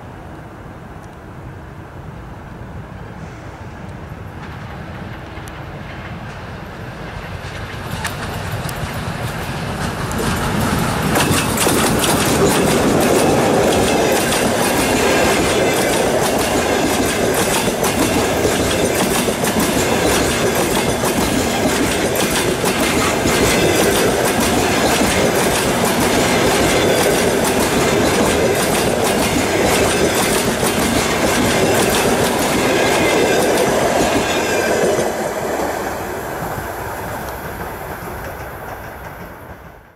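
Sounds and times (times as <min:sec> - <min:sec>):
passenger train passing: 0:00.0 - 0:39.9
wheels clacking over rail joints: 0:04.4 - 0:39.9.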